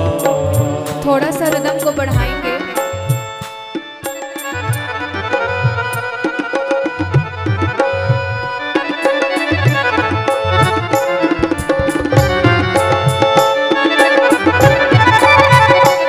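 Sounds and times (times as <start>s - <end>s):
hand drums beating: 0.0s - 16.0s
sustained reedy melody: 0.0s - 16.0s.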